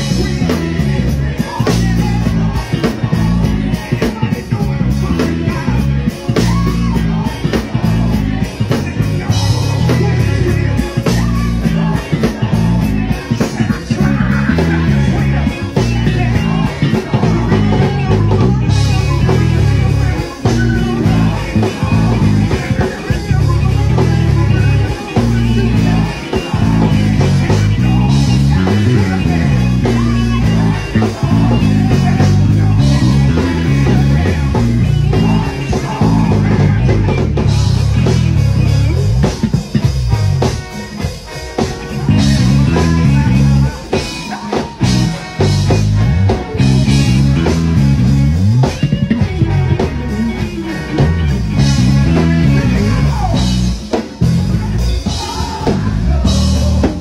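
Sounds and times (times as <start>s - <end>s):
electric bass line: 0.0s - 57.0s
gospel band playing: 0.0s - 57.0s.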